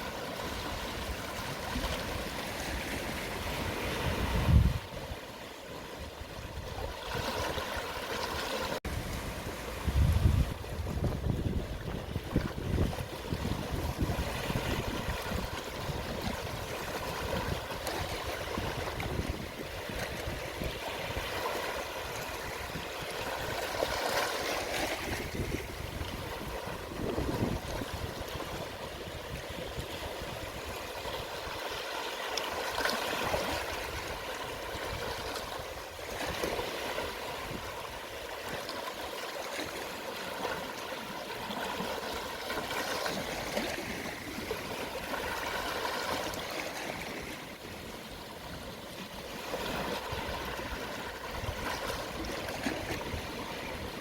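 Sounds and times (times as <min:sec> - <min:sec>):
gentle waves on shore: 0:00.0 - 0:54.0.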